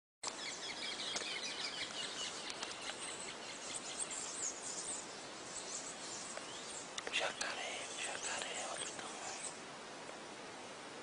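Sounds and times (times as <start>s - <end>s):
birds chirping: 0.2s - 10.4s
steady background hiss: 0.3s - 11.0s
insects calling: 0.4s - 9.7s.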